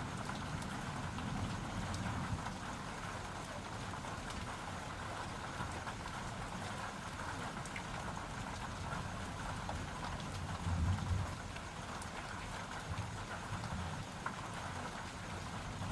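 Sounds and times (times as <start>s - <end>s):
rain falling: 0.0s - 15.9s.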